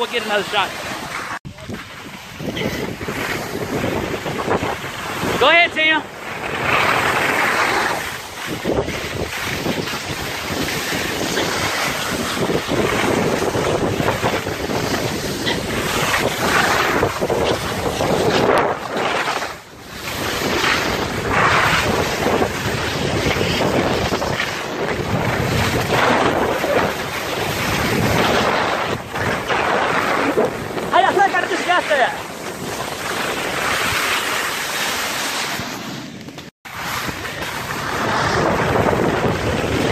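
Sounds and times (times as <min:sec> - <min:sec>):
skis sliding over snow: 0:00.0 - 0:39.9
wind over microphone: 0:00.0 - 0:39.9.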